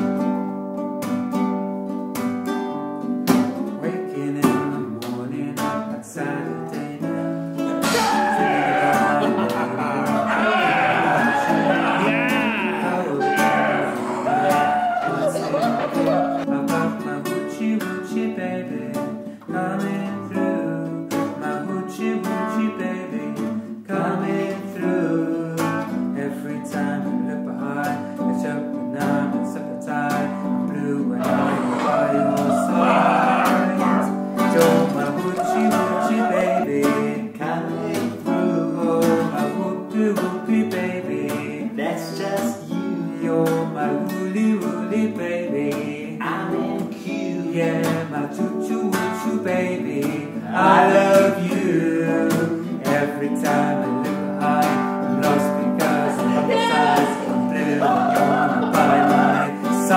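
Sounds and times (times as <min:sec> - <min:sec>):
acoustic guitar plucked notes: 0:00.0 - 0:59.9
person singing: 0:03.6 - 0:59.9.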